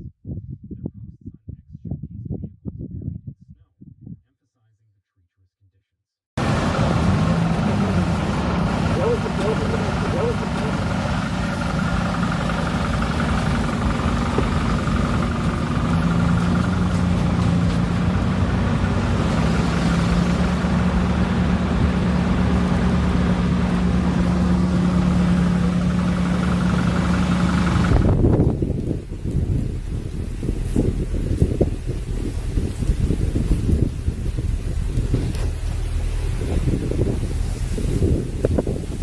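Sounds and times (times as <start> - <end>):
vehicle engine idling: 6.4 - 39.0.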